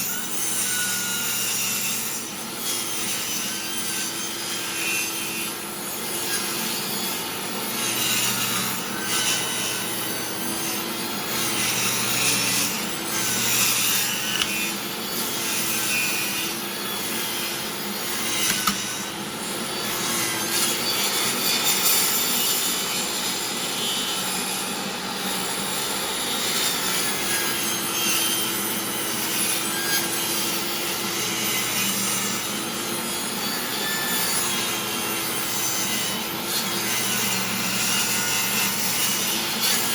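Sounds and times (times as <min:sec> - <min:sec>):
table saw cutting wood: 0:00.0 - 0:39.9
saw motor hum: 0:02.3 - 0:39.9.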